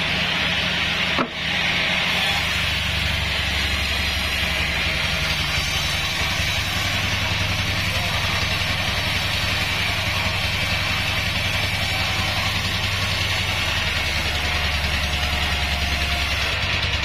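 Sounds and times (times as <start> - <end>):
band sawmill running: 0.0 - 17.0.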